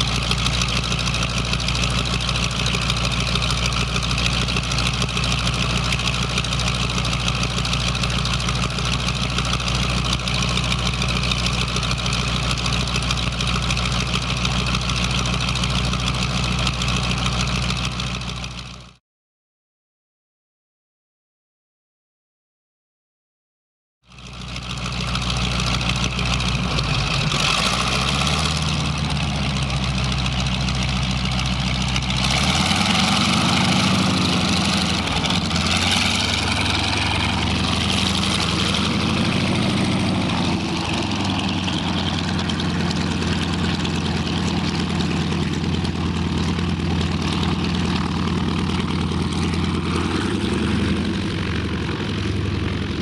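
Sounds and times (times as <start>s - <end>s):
radial piston aircraft engine: 0.0s - 19.0s, 24.1s - 53.0s.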